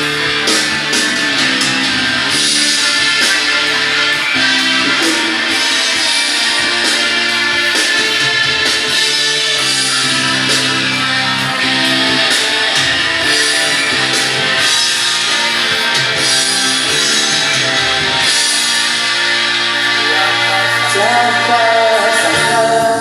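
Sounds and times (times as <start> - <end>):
guitar-led instrumental music: 0.0 - 23.0.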